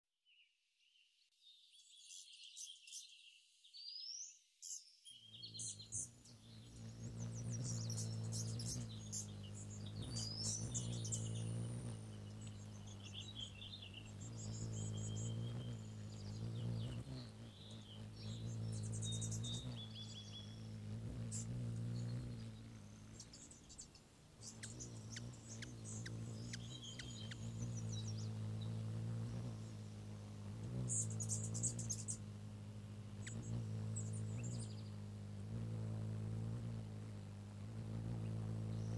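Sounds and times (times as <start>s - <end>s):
small birds chirping: 0.3s - 38.9s
steady low hum: 5.3s - 38.9s.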